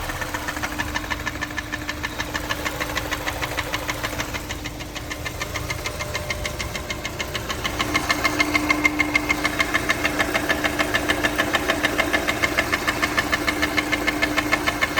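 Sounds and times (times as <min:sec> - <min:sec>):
car engine idling with knock: 0:00.0 - 0:14.9.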